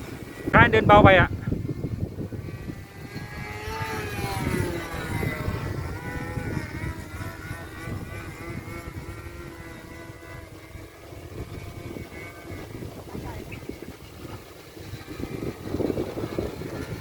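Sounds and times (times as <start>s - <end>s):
model airplane engine running: 0.0s - 17.0s.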